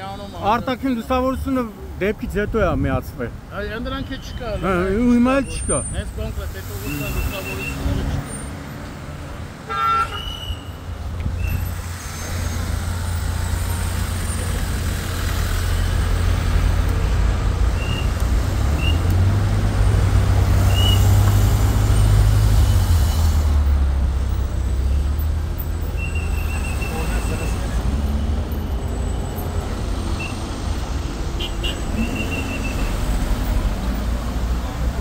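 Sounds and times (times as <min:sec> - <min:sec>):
traffic engines rumbling: 0:00.0 - 0:35.0.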